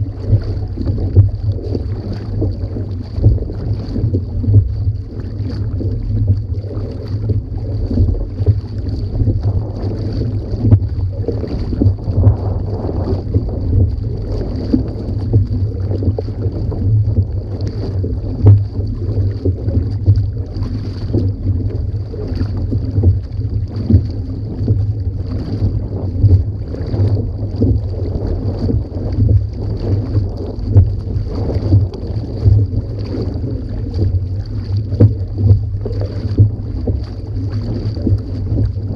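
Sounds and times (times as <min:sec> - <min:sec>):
paddle strokes splashing: 0:00.0 - 0:38.9
water rushing along hull: 0:00.0 - 0:38.9
wind on microphone: 0:00.0 - 0:38.9.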